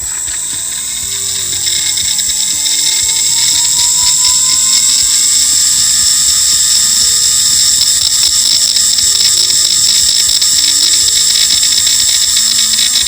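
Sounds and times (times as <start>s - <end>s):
lathe motor whining: 0.0s - 13.0s
motor bearing rattling: 0.0s - 13.0s.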